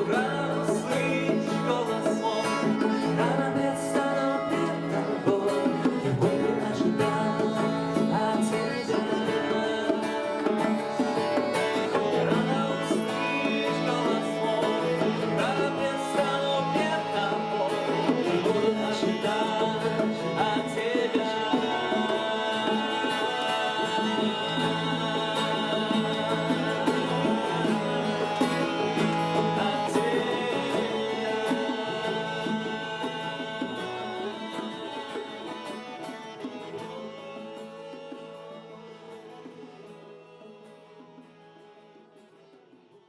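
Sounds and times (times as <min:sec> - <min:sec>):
worship song with guitar: 0:00.0 - 0:43.0.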